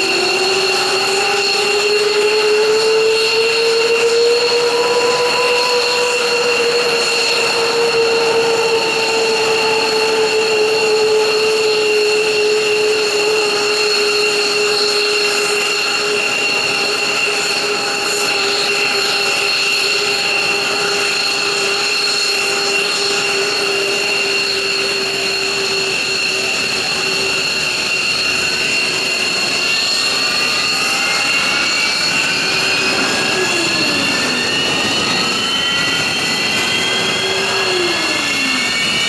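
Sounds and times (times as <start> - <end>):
jet engine whine: 0.0 - 39.0.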